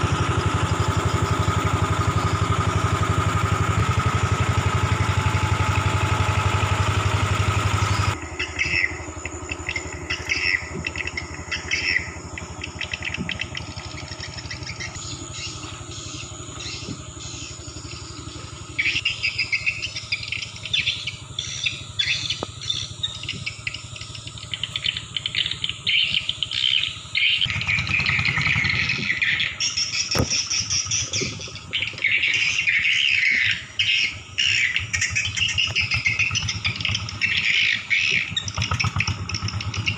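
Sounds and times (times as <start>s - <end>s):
high-pitched chirping of night animals: 0.0s - 39.9s
small engine running: 0.0s - 39.9s.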